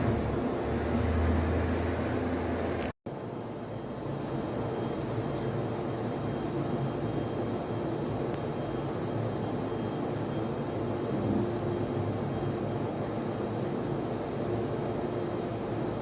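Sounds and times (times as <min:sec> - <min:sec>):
cooling fans humming: 0:00.0 - 0:16.0.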